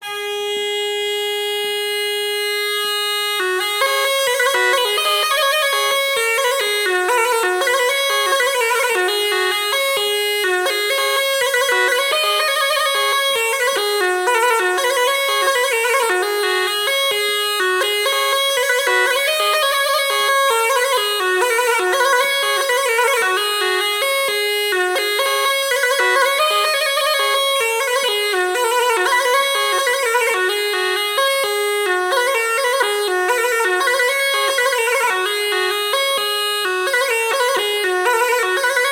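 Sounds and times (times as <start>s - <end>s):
bagpipe dance melody: 0.0s - 38.9s.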